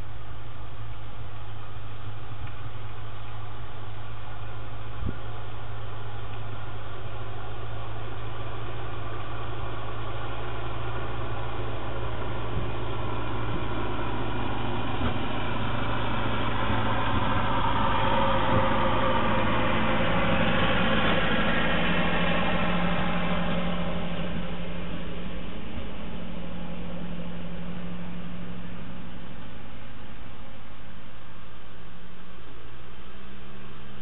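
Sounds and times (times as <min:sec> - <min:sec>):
tractor engine passing by: 0:00.0 - 0:31.9.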